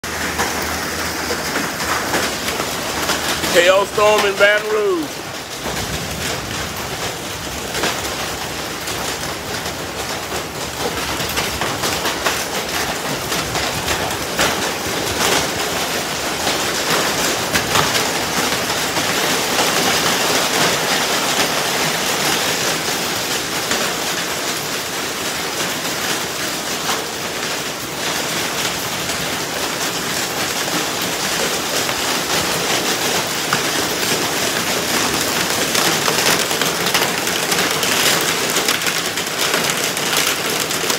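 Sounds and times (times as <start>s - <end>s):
hailstones striking: 0.0s - 40.9s
heavy rain hiss: 0.1s - 40.9s.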